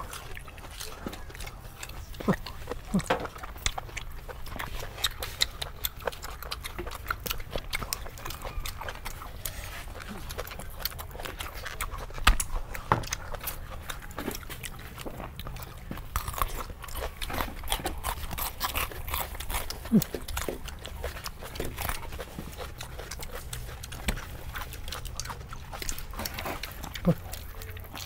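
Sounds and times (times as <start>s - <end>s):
wet chewing and lip smacking: 0.0s - 28.0s.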